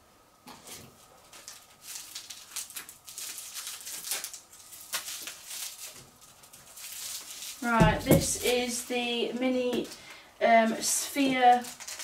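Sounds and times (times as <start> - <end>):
plastic wrapping crackling: 0.6 - 12.0.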